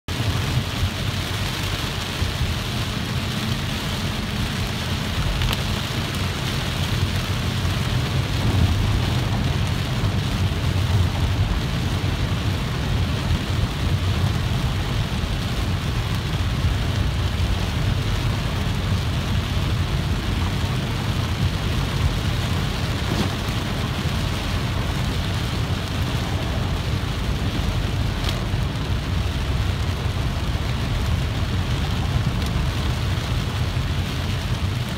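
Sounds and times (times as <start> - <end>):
heavy rain: 0.1 - 34.9
low car rumble: 0.1 - 34.9.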